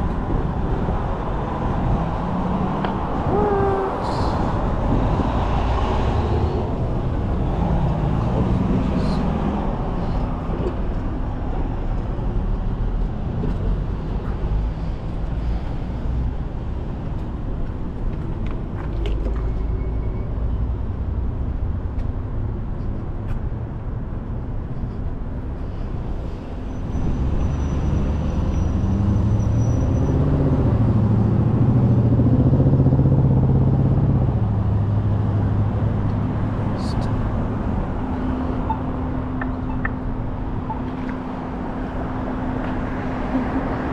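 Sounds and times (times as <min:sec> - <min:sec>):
heavy vehicle engine drone: 0:00.0 - 0:18.6, 0:19.5 - 0:43.9
road traffic passing: 0:00.0 - 0:19.7, 0:20.3 - 0:43.9.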